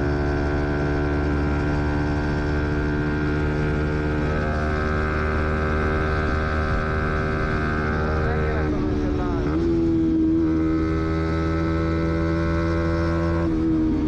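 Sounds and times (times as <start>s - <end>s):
motorcycle engine running steadily: 0.0s - 14.0s.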